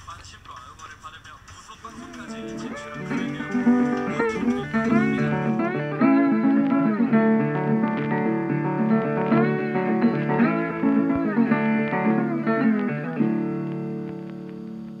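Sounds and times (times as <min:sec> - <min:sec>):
plucked string instrumental: 0:01.9 - 0:15.0.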